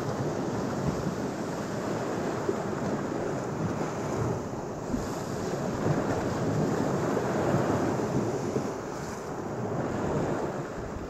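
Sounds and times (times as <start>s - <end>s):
waves splashing against pilings: 0.0s - 11.0s
waves washing onto beach: 0.0s - 11.0s
wind buffeting microphone: 0.0s - 11.0s.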